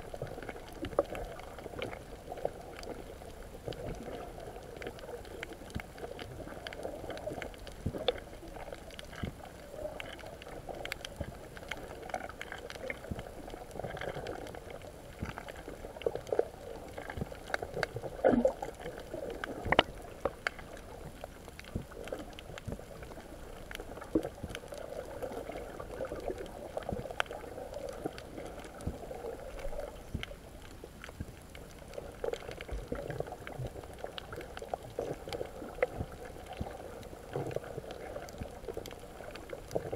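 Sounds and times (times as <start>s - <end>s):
small clicks and crackles: 0.0s - 39.9s
underwater gurgling and sloshing: 0.0s - 39.9s.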